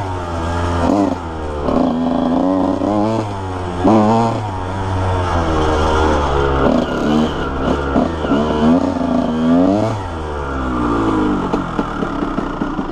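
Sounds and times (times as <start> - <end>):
two-stroke engine revving: 0.0 - 12.9.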